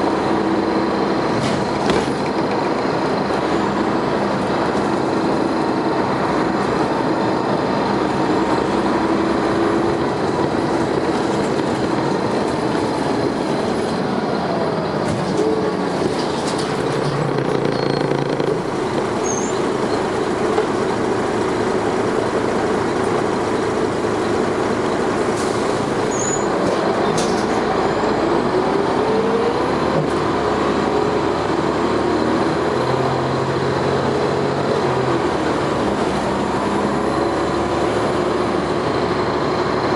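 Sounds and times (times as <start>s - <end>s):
bus diesel engine under load: 0.0s - 39.9s.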